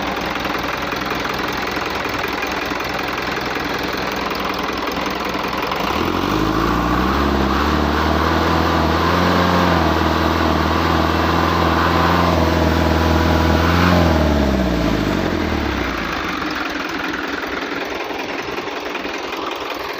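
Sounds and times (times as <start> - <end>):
truck diesel engine revving: 0.0 - 19.9.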